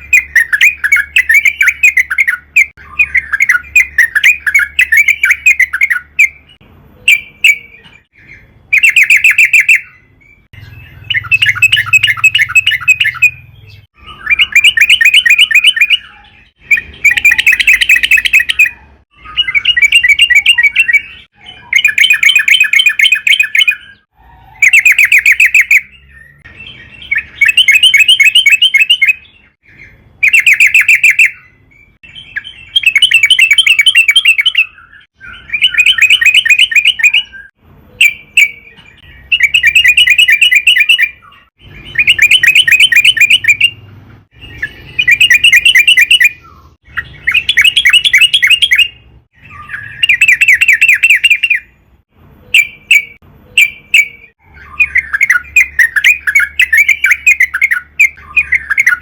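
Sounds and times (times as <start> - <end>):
bird singing rattling trills: 0.0 - 59.0.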